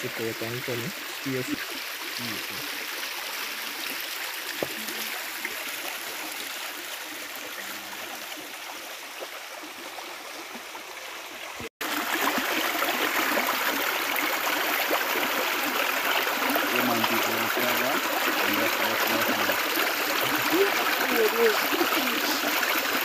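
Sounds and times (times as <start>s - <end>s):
river water running over rocks: 0.0s - 23.0s.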